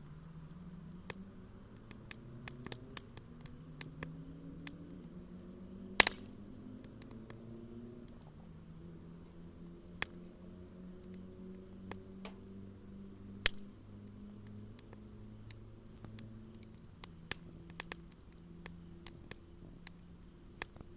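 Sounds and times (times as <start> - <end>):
firewood crackling and popping: 0.0 - 20.9.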